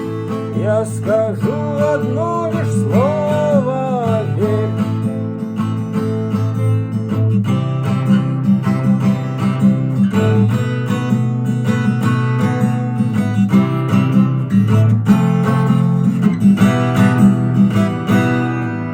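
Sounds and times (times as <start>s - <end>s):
acoustic guitar strumming: 0.0s - 18.9s.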